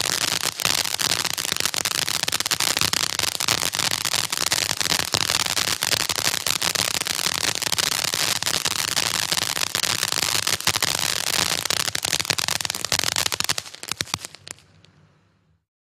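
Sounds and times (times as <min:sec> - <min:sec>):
firework crackling pops: 0:00.0 - 0:15.6.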